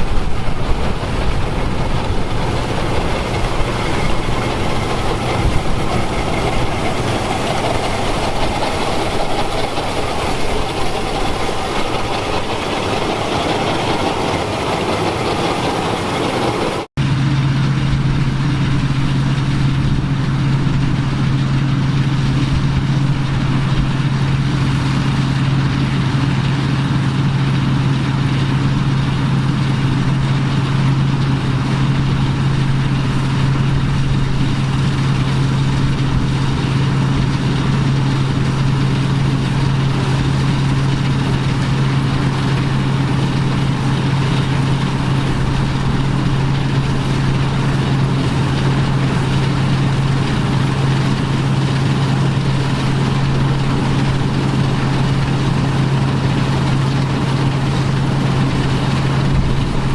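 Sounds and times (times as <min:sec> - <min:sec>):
farm machinery engine running: 0:00.0 - 0:59.9.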